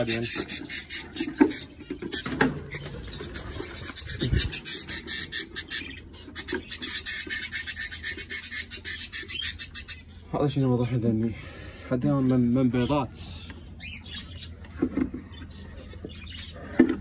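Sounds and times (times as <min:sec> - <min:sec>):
budgerigars chattering and squawking: 0:00.0 - 0:17.0.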